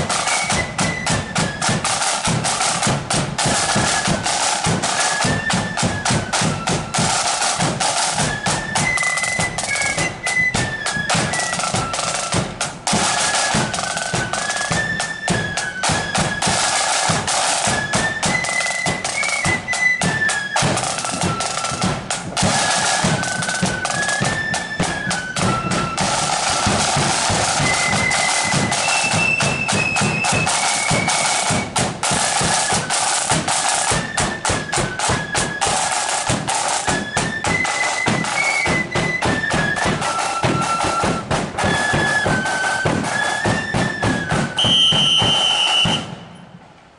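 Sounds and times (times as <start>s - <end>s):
flutes playing melody: 0.0s - 46.5s
snare drum rolls: 0.0s - 46.7s.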